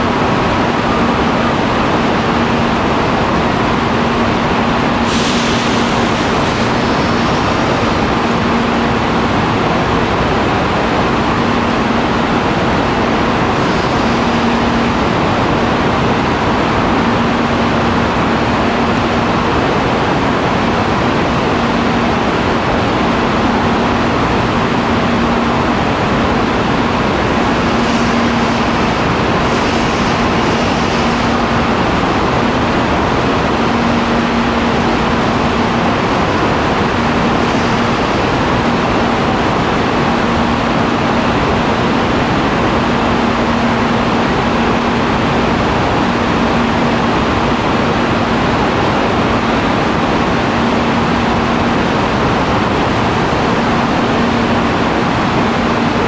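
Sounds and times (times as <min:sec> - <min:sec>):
low electrical hum: 0:00.0 - 0:56.0
train cooling fans rushing: 0:00.0 - 0:56.0.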